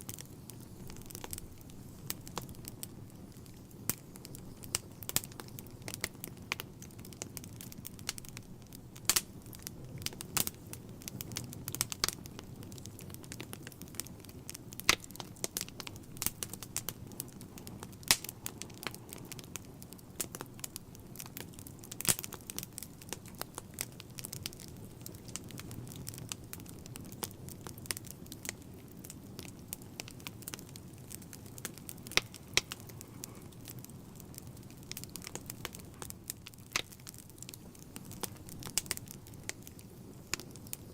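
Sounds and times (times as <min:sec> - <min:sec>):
fire crackling and popping: 0:00.0 - 0:40.9
hiss of flames: 0:00.0 - 0:40.9.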